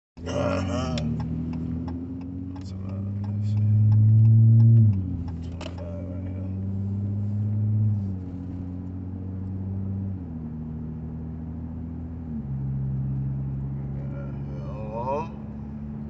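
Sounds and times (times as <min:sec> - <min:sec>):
car exhaust drone from inside cabin: 0:00.2 - 0:16.0.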